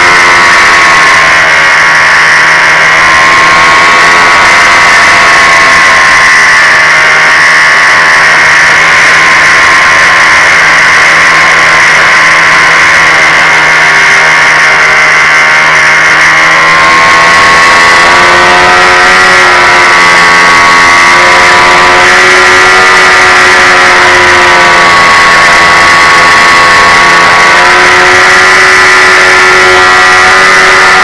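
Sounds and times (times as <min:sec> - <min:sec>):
electric motor propeller whine: 0:00.0 - 0:31.0.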